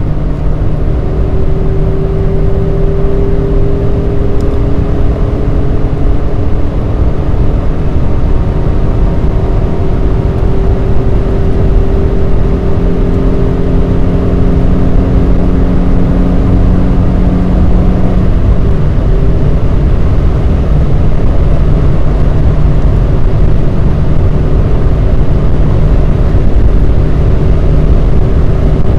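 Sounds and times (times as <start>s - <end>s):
car engine running: 0.0s - 28.9s
road and wind rumble: 0.0s - 28.9s.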